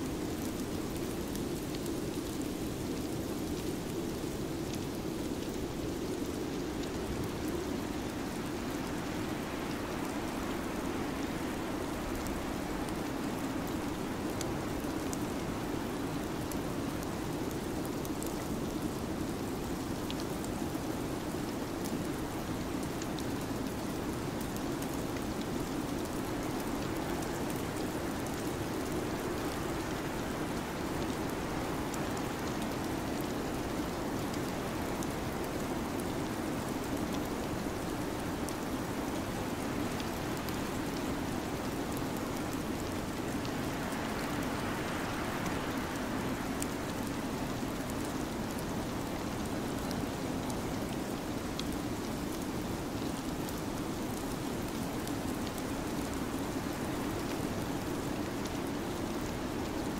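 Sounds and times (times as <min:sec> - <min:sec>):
rain-like hiss: 0:00.0 - 0:59.9.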